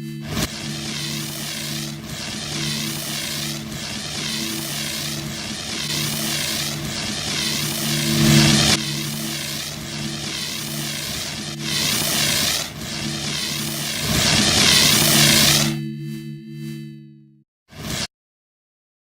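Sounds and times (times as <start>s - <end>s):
engine-like drone: 0.0s - 17.4s
wavering hiss: 0.3s - 15.8s.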